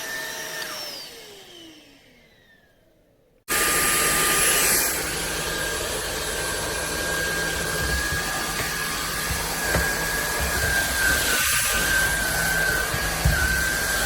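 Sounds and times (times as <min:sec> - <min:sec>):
stick vacuum motor whine: 0:00.0 - 0:14.0.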